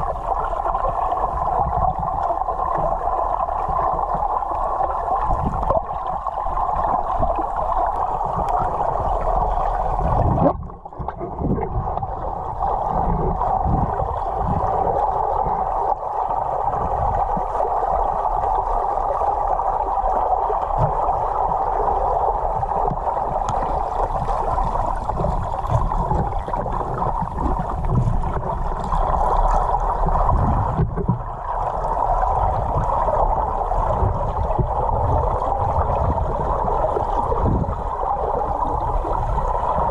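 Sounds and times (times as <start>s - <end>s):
muffled underwater rush and gurgle: 0.0s - 39.9s.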